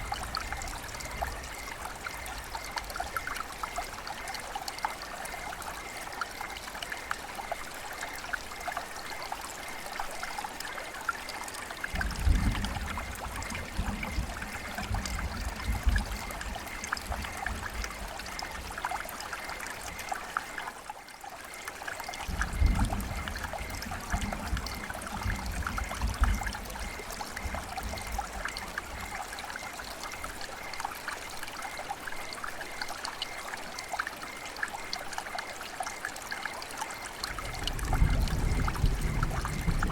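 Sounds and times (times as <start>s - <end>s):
river water babbling: 0.0s - 12.1s, 12.7s - 39.8s.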